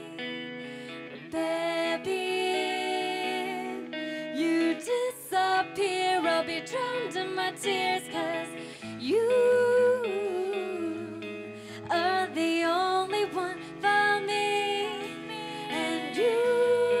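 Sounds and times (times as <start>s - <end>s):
live band with guitar: 0.0s - 17.0s
woman singing into microphone: 0.0s - 17.0s.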